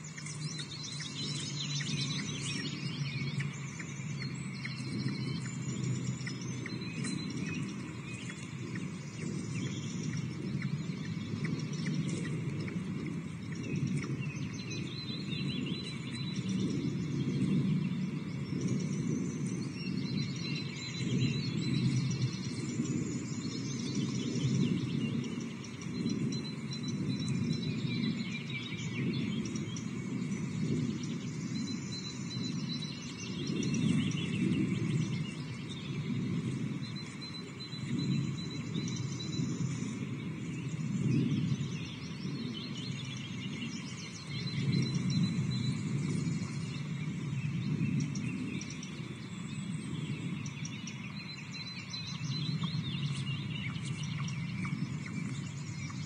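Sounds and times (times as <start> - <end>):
birds calling: 0.0 - 56.0
wind buffeting microphone: 0.0 - 56.0.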